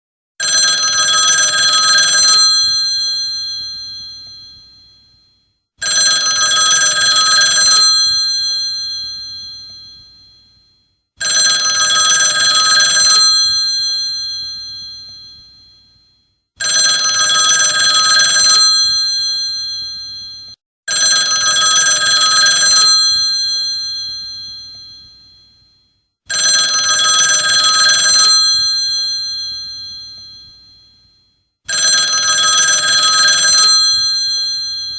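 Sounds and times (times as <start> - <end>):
telephone bell ringing: 0.4 - 34.9.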